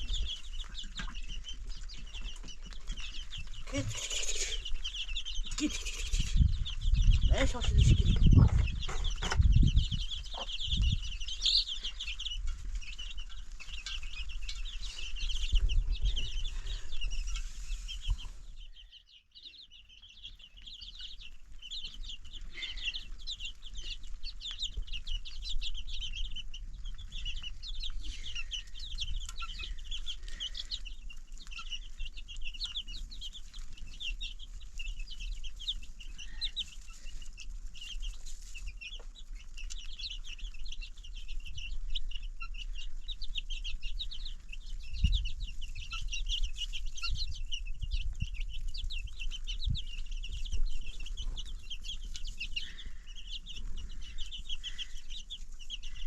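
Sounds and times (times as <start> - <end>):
chickens cheeping and clucking: 0.0 - 56.0.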